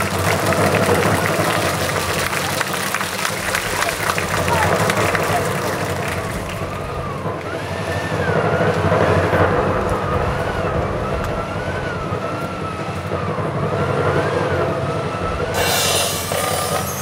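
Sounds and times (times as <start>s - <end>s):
siren wailing: 3.4s - 17.0s.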